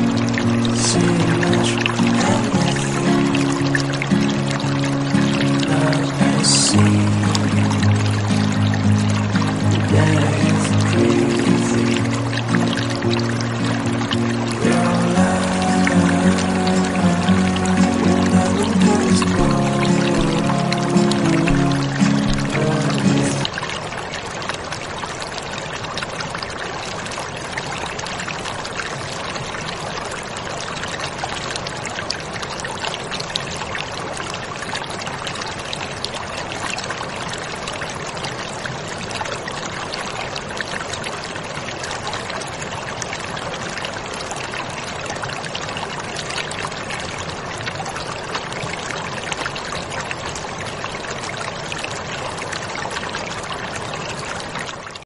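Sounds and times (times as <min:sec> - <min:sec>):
water pouring: 0:00.0 - 0:55.0.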